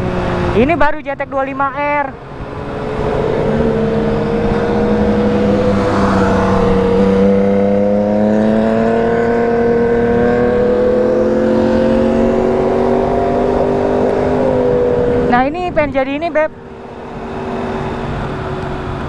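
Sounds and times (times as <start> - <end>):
wind rush: 0.0 - 19.0
motorcycle engine accelerating: 2.1 - 19.0.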